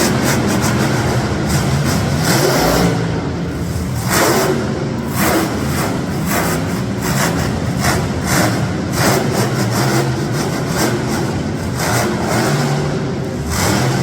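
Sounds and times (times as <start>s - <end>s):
monster truck engine surging: 0.0s - 14.0s.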